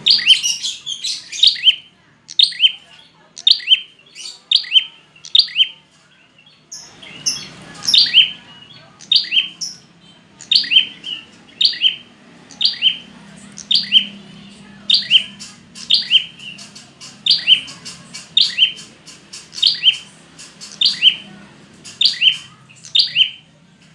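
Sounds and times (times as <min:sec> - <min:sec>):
bird chirping: 0:00.0 - 0:23.9
faint low hum: 0:00.0 - 0:23.9.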